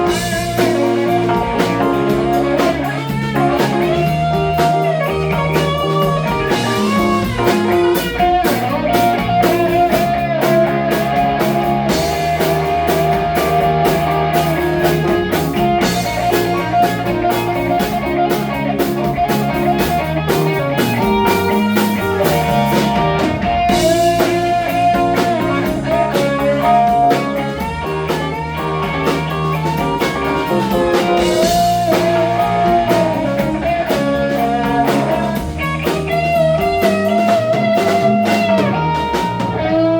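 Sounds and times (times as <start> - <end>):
lead guitar bending notes: 0.0 - 39.9
live blues-rock band: 0.0 - 39.9.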